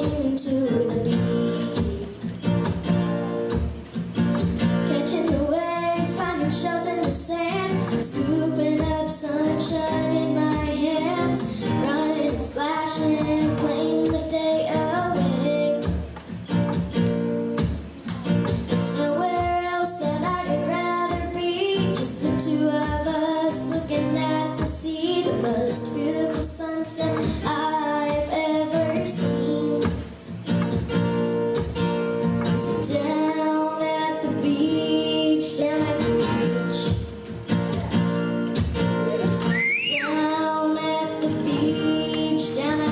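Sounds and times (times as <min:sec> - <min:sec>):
woman singing: 0:00.0 - 0:03.5, 0:04.6 - 0:16.1, 0:18.2 - 0:30.1, 0:32.6 - 0:38.2, 0:39.9 - 0:42.9
acoustic guitar: 0:00.0 - 0:42.9.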